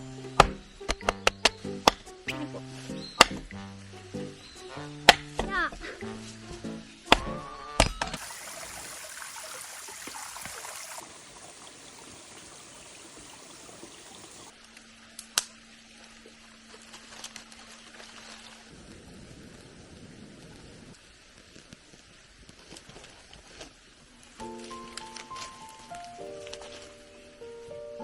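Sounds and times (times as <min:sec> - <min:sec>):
running stream water: 0:00.0 - 0:27.8.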